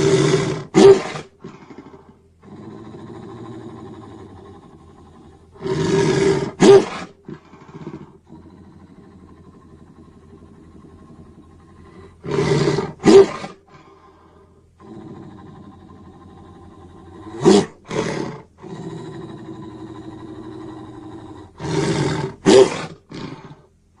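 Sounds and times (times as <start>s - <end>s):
low rumbling growl: 1.4s - 6.6s, 7.2s - 13.0s, 13.6s - 24.0s.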